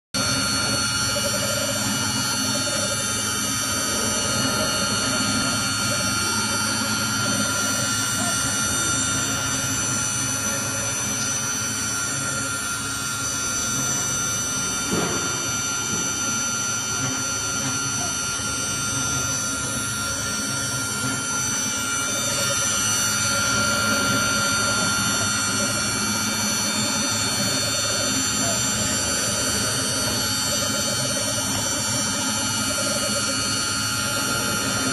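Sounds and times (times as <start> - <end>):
cutter milling metal: 0.2 - 34.9
machine spindle whine: 0.2 - 34.9.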